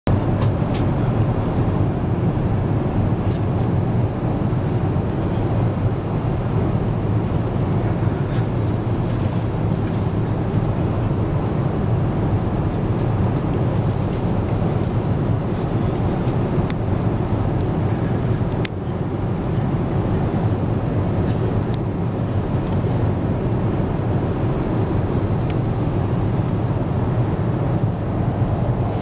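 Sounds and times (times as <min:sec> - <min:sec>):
airliner cabin drone: 0:00.1 - 0:29.0.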